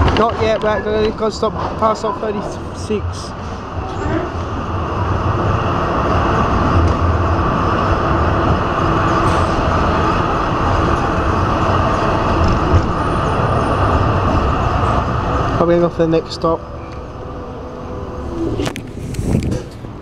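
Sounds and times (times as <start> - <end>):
tram wheels rumbling on rails: 0.0 - 20.0.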